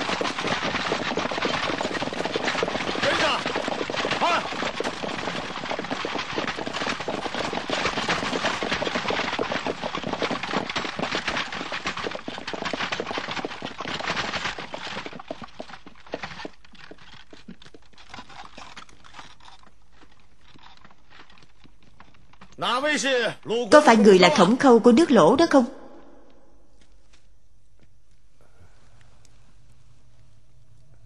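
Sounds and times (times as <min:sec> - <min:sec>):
horses' hooves clattering: 0:00.0 - 0:25.6.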